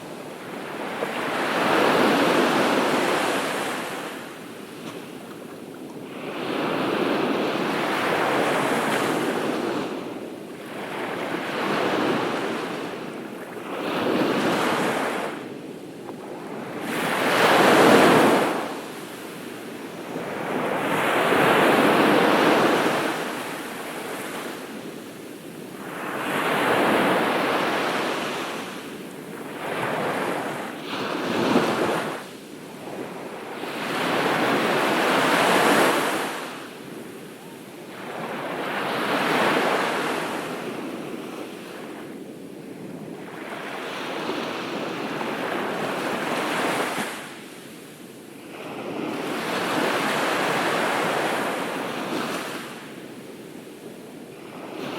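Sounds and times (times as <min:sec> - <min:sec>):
ocean waves breaking on beach: 0:00.0 - 0:54.9.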